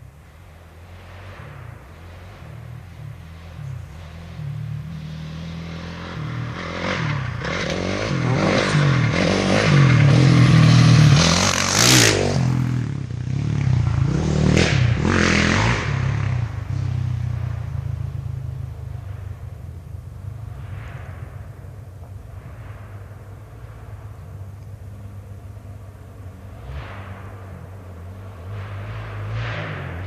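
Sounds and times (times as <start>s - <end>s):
off-road engines revving: 0.0s - 30.0s.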